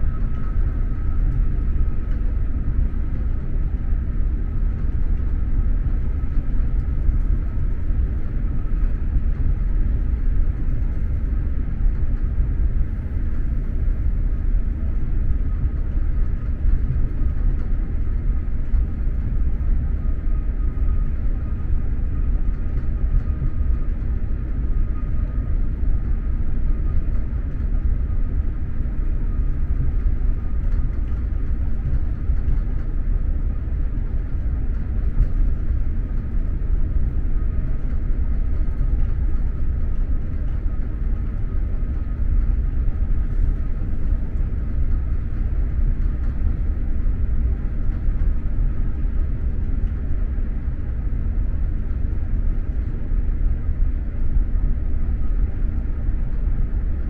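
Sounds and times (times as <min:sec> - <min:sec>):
train rumbling inside coach: 0:00.0 - 0:57.0.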